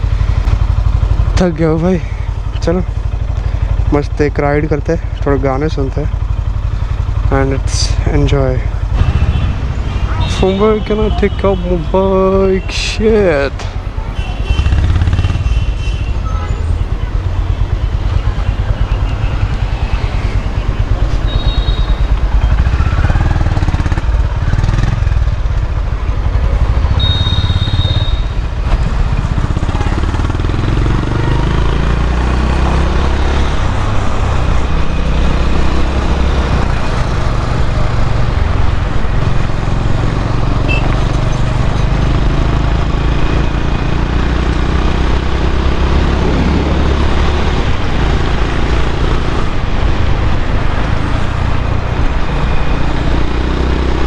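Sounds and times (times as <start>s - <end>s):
motorcycle engine and road noise: 0.0s - 54.0s.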